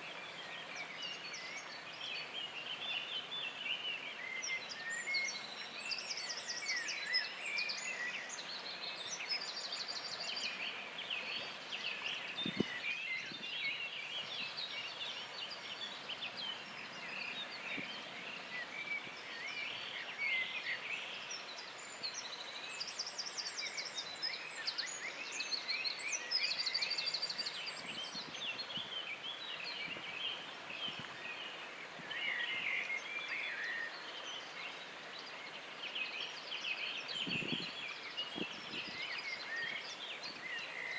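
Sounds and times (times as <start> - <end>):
background hiss: 0.0 - 40.9
songbirds singing: 0.0 - 40.9.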